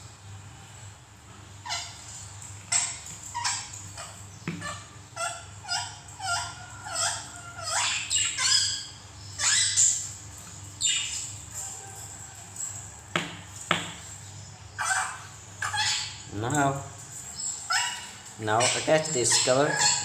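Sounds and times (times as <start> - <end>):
birds chirping: 1.3 - 20.0.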